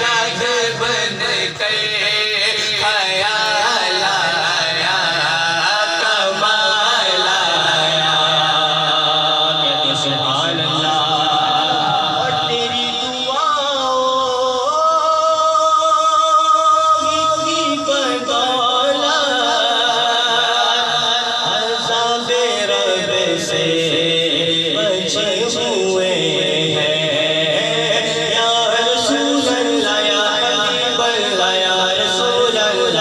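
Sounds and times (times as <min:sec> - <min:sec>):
man singing devotional song amplified: 0:00.0 - 0:33.0.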